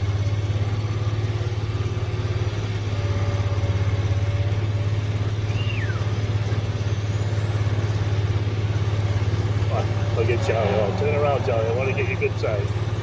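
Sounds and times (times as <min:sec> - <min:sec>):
vehicle engine at low revs: 0:00.0 - 0:13.0.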